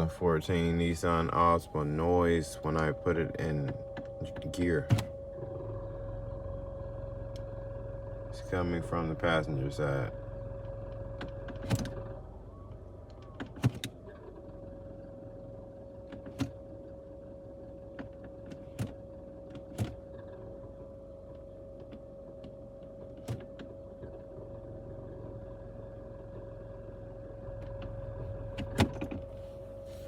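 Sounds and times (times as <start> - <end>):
car engine hum: 0.0 - 30.0.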